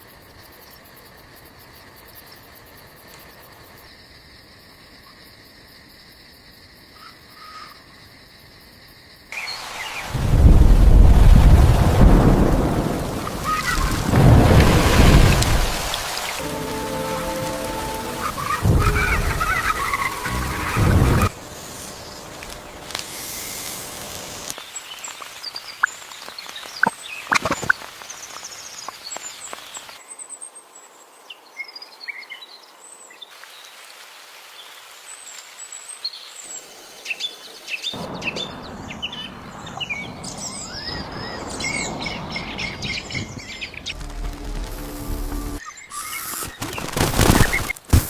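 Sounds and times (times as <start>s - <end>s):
outdoor background hiss: 0.0s - 48.0s.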